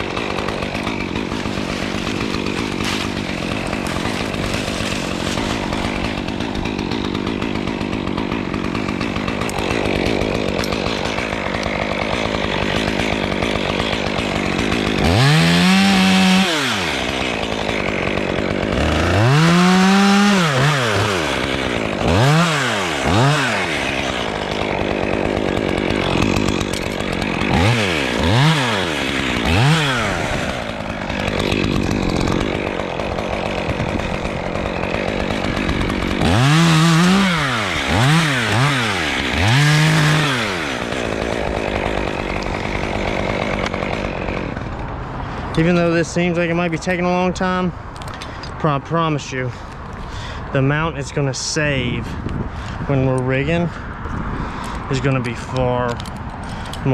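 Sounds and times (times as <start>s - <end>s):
chainsaw idling and revving: 0.0s - 56.9s.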